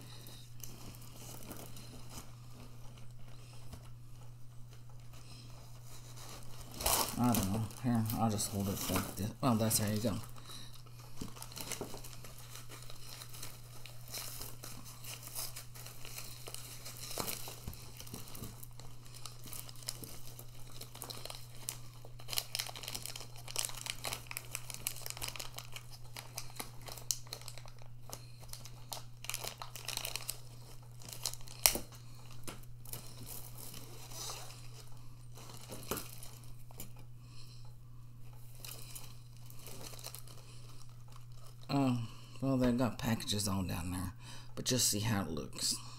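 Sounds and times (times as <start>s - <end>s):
plastic packaging crinkling: 0.0s - 37.2s, 38.2s - 42.0s
steady low hum: 0.0s - 45.9s.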